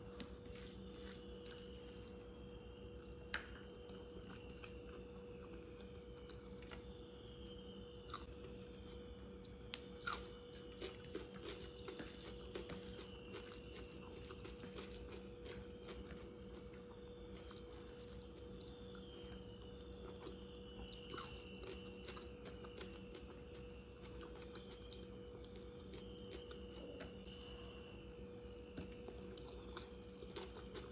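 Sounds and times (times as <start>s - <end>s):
person chewing food: 0.0s - 7.0s, 8.0s - 9.0s, 9.7s - 30.9s
faint steady hum: 0.0s - 30.9s.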